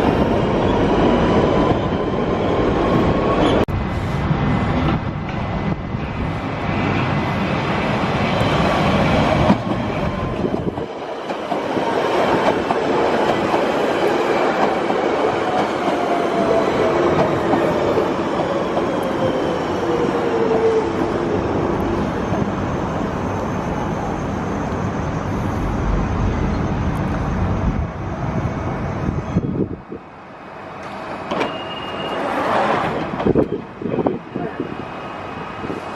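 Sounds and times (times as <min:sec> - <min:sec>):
train wheels rumbling on rails: 0:00.0 - 0:30.1, 0:30.7 - 0:35.9.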